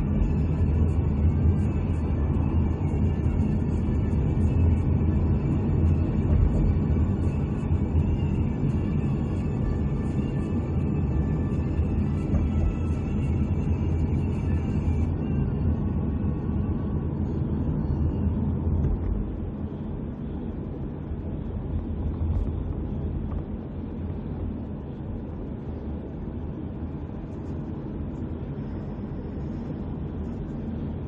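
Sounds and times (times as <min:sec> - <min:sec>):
car interior road and engine rumble: 0:00.0 - 0:31.0.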